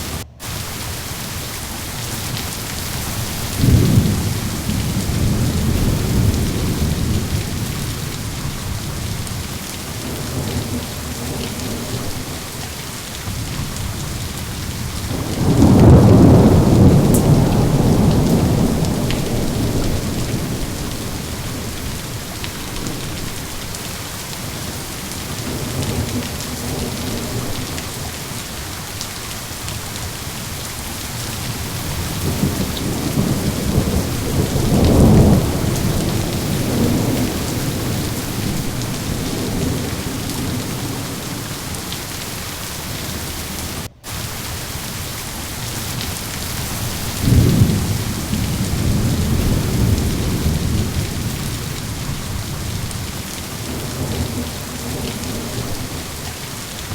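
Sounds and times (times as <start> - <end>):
rolling thunder: 0.0 - 44.6, 45.6 - 56.9
heavy rain: 0.0 - 56.9.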